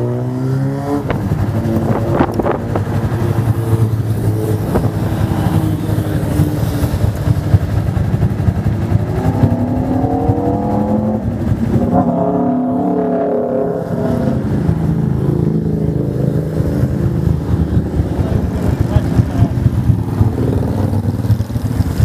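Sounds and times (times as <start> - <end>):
motorcycle accelerating: 0.0 - 22.0
motorcycle engines rumbling: 0.0 - 22.0
sport bike passing: 0.0 - 22.0.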